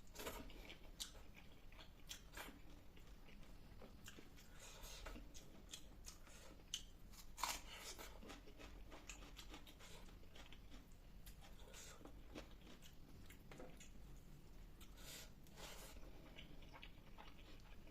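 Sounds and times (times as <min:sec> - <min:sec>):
person chewing food: 0:00.1 - 0:17.9.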